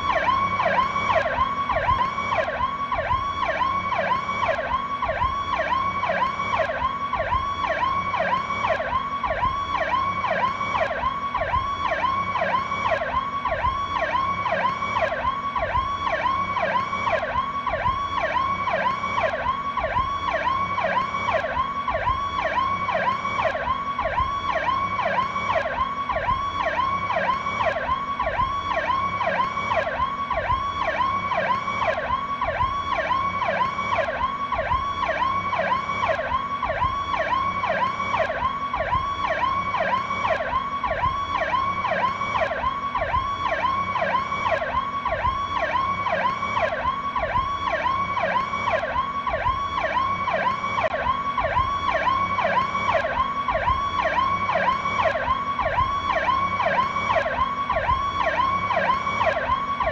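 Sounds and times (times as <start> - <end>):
police siren yelp: 0.0 - 59.9.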